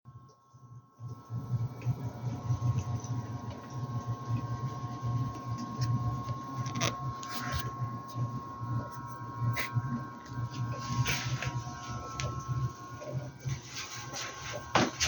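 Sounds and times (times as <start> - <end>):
thin steady whine: 0.2 - 15.0
air conditioner humming: 1.2 - 15.0.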